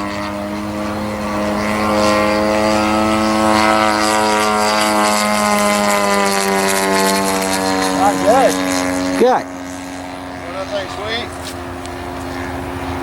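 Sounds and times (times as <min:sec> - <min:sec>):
model airplane engine and propeller: 0:00.0 - 0:13.0.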